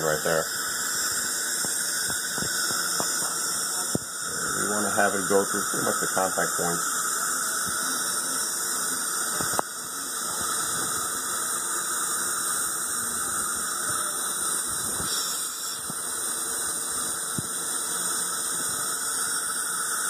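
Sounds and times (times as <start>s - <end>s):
saliva ejector hissing: 0.0s - 20.0s.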